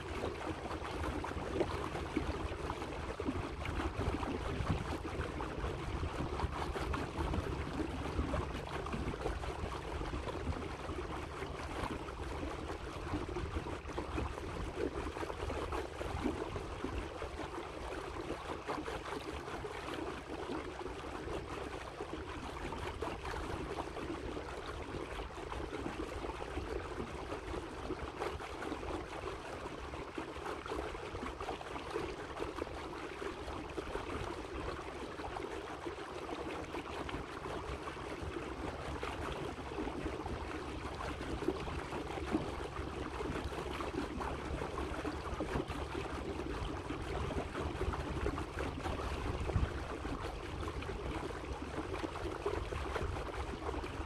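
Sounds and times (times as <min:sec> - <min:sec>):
water lapping against hull: 0:00.0 - 0:54.0.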